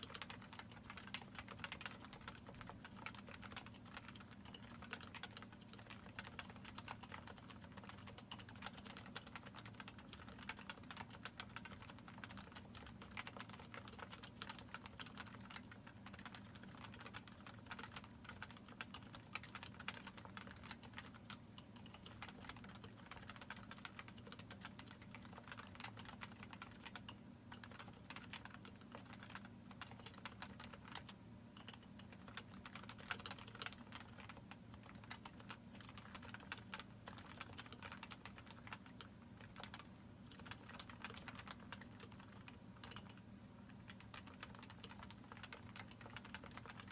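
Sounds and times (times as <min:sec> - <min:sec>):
fast keyboard typing: 0:00.0 - 0:46.9.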